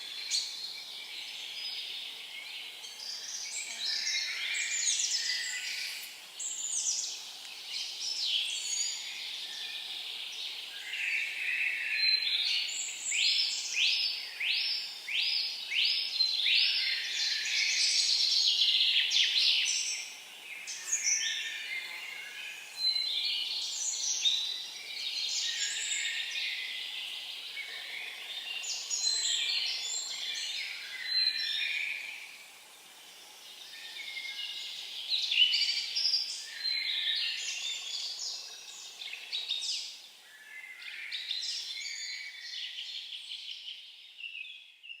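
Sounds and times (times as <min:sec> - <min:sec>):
faint background noise: 0:00.0 - 0:45.0
songbirds chirping: 0:00.0 - 0:45.0.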